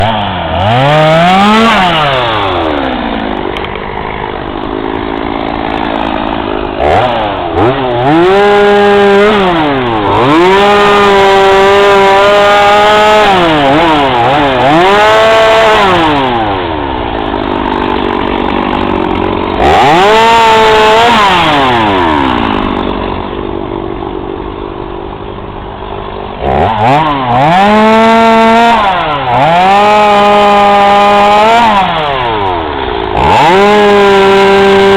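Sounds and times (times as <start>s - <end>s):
chainsaw revving cutting wood: 0.0s - 34.9s.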